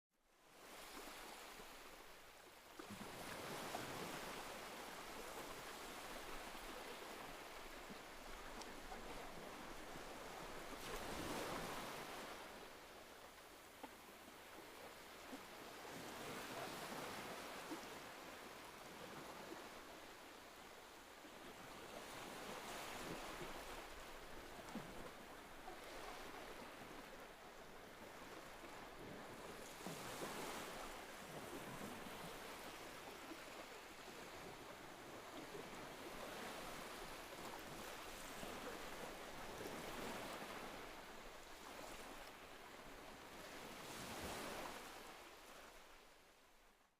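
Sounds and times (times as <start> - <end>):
sea waves breaking: 2.8 - 45.9.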